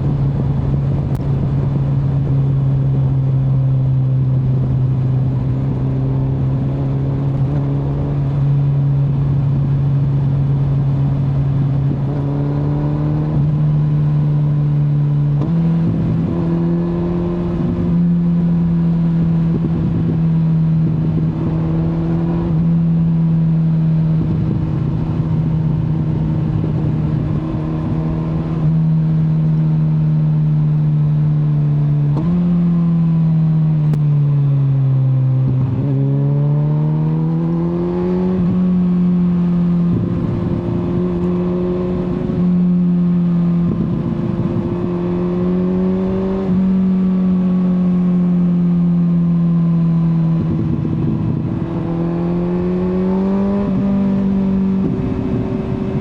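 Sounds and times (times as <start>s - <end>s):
wind rush on microphone: 0.0s - 29.6s, 35.0s - 36.5s, 37.1s - 47.5s, 49.8s - 56.0s
motorcycle engine running: 0.0s - 56.0s.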